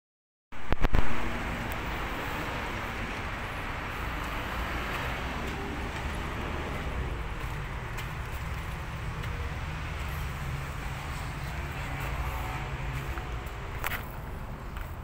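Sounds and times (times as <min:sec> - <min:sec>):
low vehicle rumble: 0:00.6 - 0:15.0.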